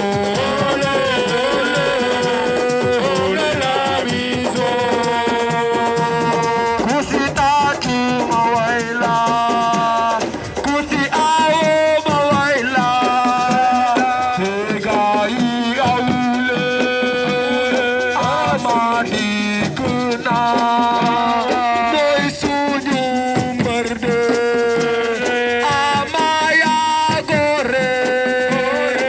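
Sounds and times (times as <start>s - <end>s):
shaken rattle rhythm: 0.0s - 29.0s.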